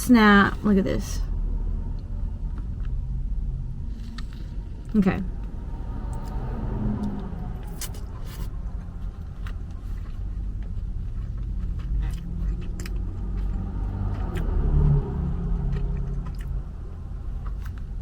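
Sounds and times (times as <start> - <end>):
low rumble of vehicles: 0.0 - 18.0.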